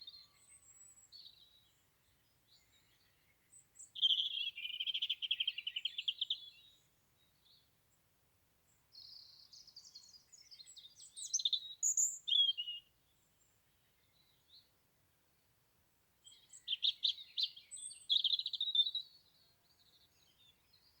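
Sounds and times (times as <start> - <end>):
robin singing: 0.0 - 7.7, 8.9 - 14.7, 16.2 - 21.0.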